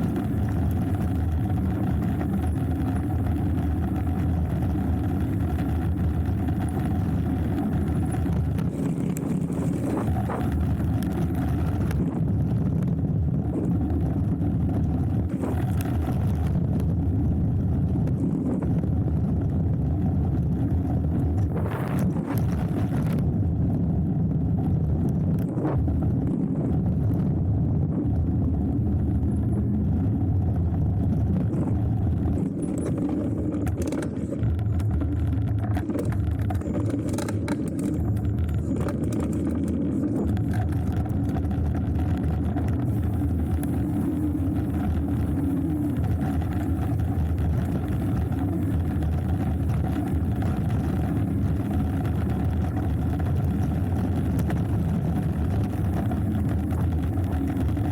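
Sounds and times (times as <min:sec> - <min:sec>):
bike tyres rolling on dirt: 0:00.0 - 0:57.9
wind on microphone: 0:00.0 - 0:57.9.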